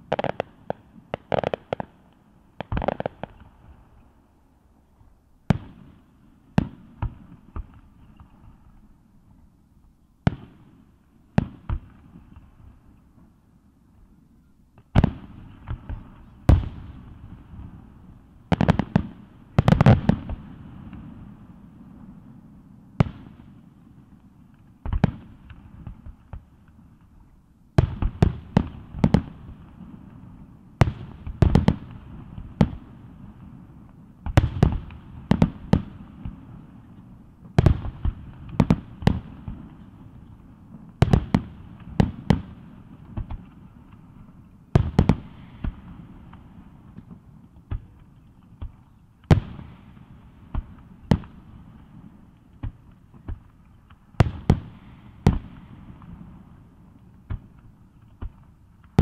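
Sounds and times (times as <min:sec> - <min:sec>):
firework booms with rolling echo: 0:00.0 - 0:03.9, 0:05.5 - 0:08.6, 0:10.2 - 0:12.8, 0:14.9 - 0:24.2, 0:24.8 - 0:27.0, 0:27.8 - 0:59.0.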